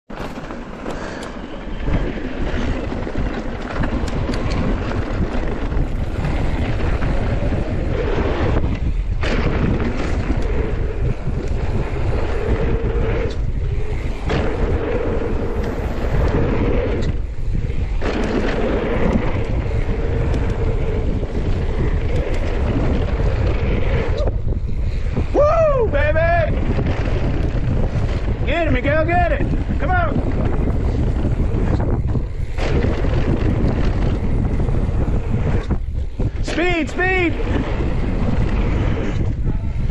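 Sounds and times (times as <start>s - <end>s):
bike rattling: 0.1s - 39.9s
tyre rumble: 0.1s - 39.9s
wind buffeting microphone: 0.1s - 39.9s.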